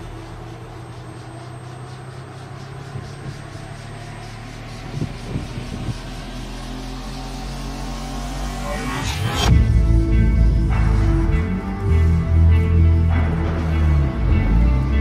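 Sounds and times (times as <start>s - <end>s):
low droning background music: 0.0s - 15.0s.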